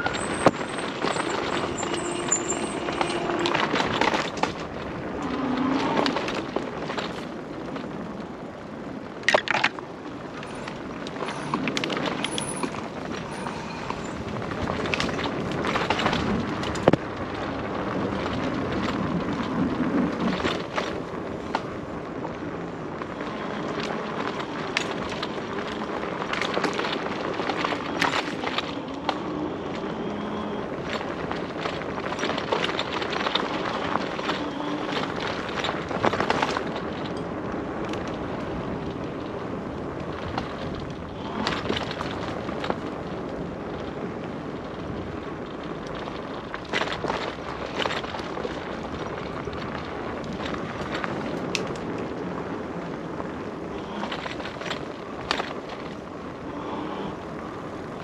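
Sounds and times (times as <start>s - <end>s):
bike clicks and knocks over bumps: 0.0s - 58.0s
bike tyre noise on trail: 0.0s - 58.0s.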